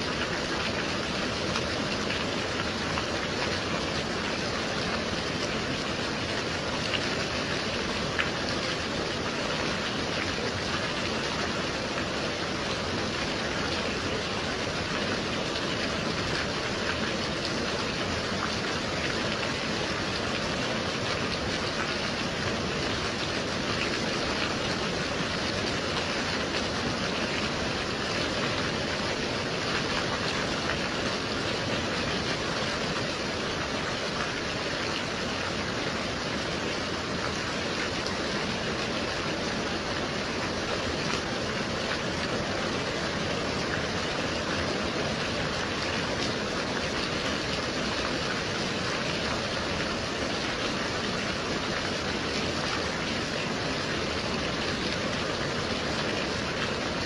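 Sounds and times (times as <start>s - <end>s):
steady gentle rain: 0.0s - 57.0s.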